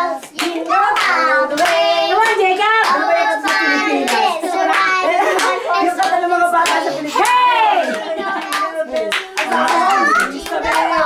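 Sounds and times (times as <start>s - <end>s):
children singing and calling out: 0.0s - 11.0s
hand claps: 0.1s - 11.0s.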